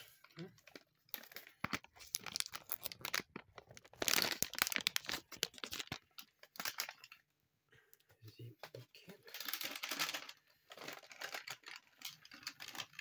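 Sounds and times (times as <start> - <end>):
plastic packet crinkling: 0.3 - 7.2, 9.3 - 13.0.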